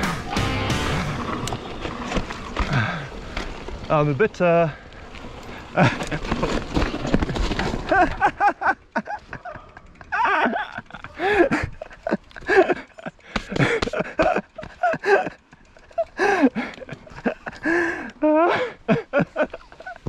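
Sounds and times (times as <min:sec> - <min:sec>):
bike rattling over rough ground: 0:01.0 - 0:20.0.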